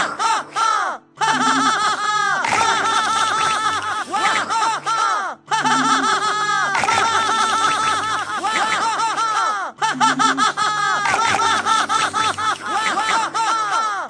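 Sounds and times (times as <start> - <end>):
high-pitched looped laughter: 0.0 - 14.0
sustained background music: 0.0 - 14.0.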